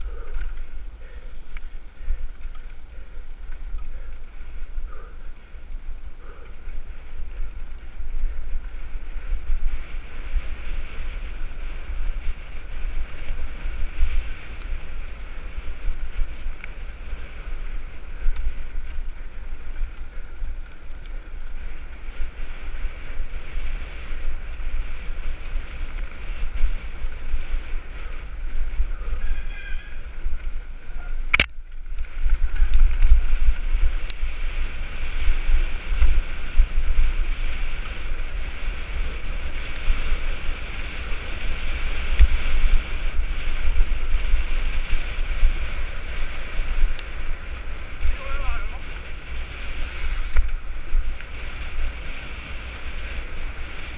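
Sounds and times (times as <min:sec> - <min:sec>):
mountain bike rattling on dirt trail: 0:00.0 - 0:53.9
wind rushing over microphone: 0:00.0 - 0:53.9.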